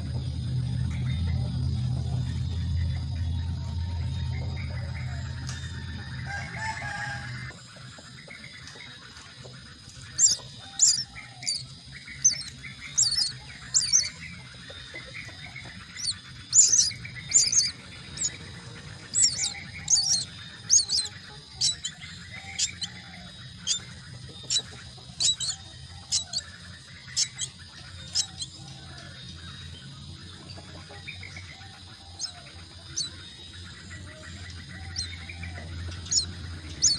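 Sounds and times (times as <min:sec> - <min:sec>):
chicks chirping: 0:00.0 - 0:36.9
faint low hum: 0:00.0 - 0:36.9.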